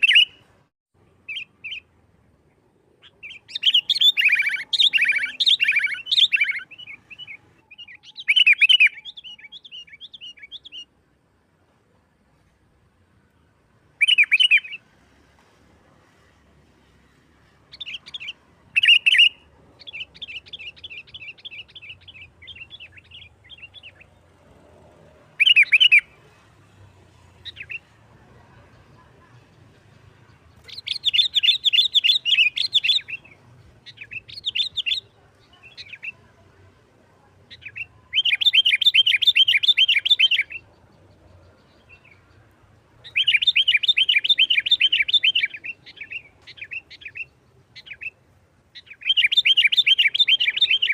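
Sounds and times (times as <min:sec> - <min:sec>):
bulbul chattering song: 0:00.0 - 0:11.0, 0:13.9 - 0:14.8, 0:17.6 - 0:50.9.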